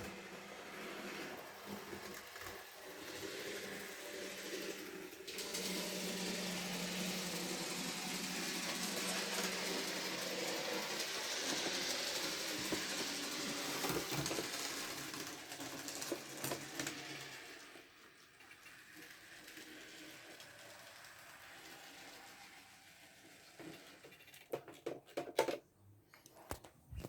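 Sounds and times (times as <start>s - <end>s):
wheels on rails: 0.0s - 25.2s.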